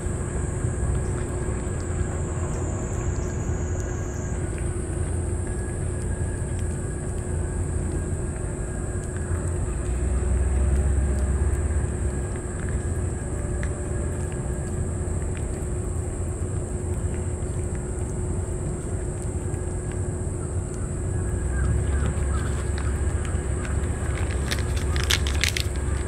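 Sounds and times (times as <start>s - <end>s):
cat chewing wet food: 0.0s - 26.0s
steady high hum: 0.0s - 26.0s
steady low rumble: 0.0s - 26.0s.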